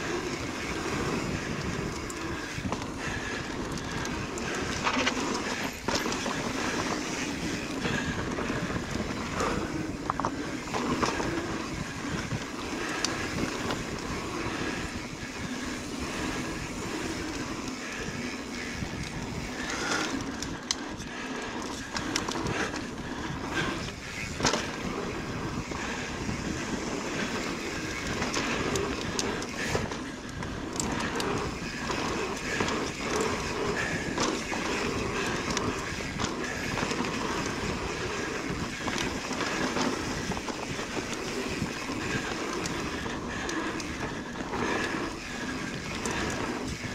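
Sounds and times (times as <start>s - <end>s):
bike tyres rolling over dirt: 0.0s - 46.9s.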